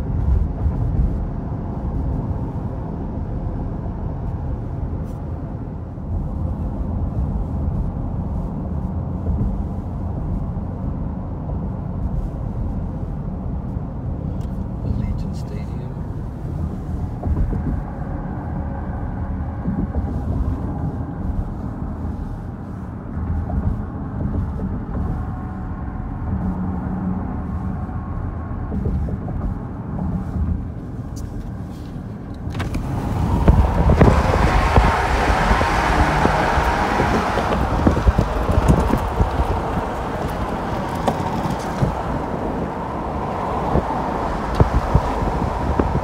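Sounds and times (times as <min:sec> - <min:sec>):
wind on microphone: 0:00.0 - 0:15.0, 0:16.0 - 0:46.0
car road noise inside cabin: 0:00.0 - 0:46.0.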